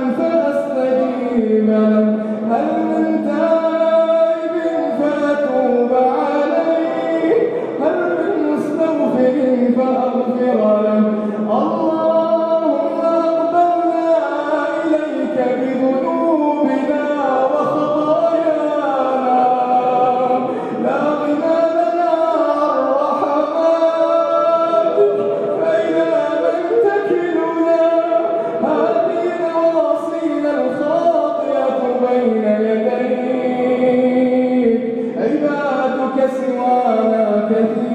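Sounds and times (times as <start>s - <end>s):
man chanting melodic prayer: 0.0s - 37.9s.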